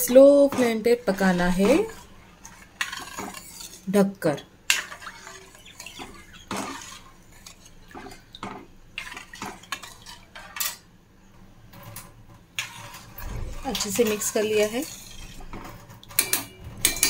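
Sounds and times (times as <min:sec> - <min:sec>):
metal spoon scraping pan: 0:00.0 - 0:04.1, 0:04.7 - 0:10.8, 0:12.6 - 0:17.0.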